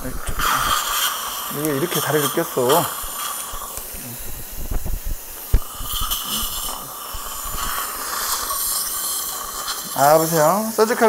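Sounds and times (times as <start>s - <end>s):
dental equipment hiss: 0.0s - 11.0s.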